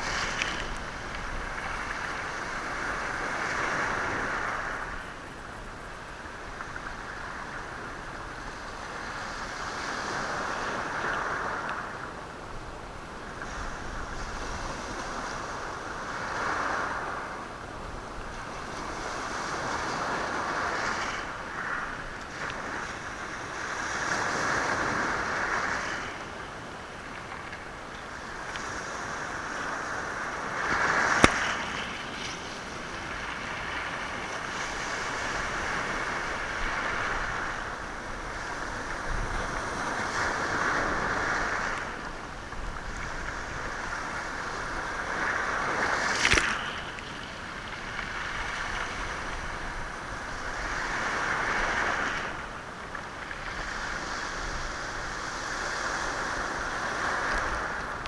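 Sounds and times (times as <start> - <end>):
waves washing over rocks: 0.0 - 58.0.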